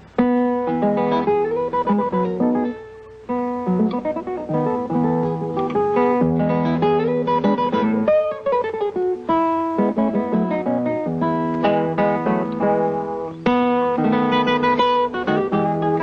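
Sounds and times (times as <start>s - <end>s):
solo classical guitar: 0.0s - 16.0s.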